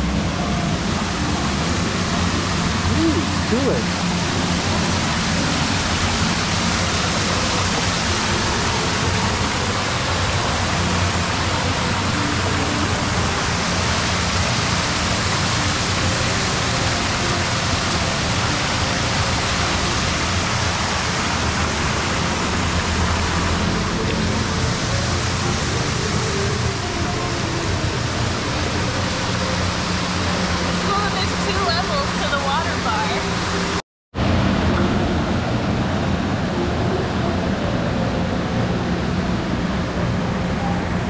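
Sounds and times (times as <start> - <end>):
waterfall splashing into pool: 0.0 - 40.2.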